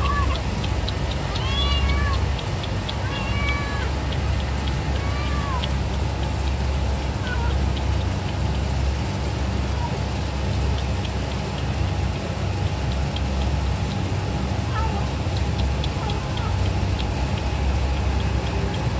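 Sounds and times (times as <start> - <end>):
low background rumble: 0.0 - 18.9.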